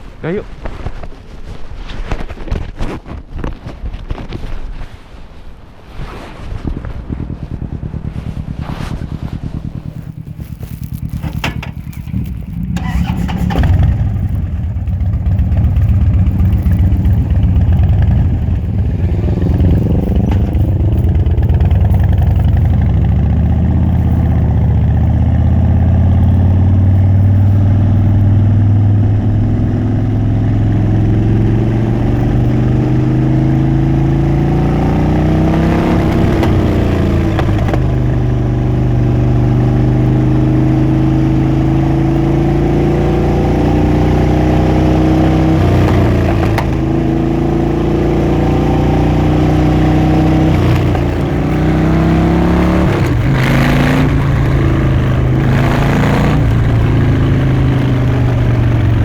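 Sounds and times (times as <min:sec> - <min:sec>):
motorcycle accelerating: 0:06.5 - 0:59.0
motorcycle engine starting: 0:07.1 - 0:59.0.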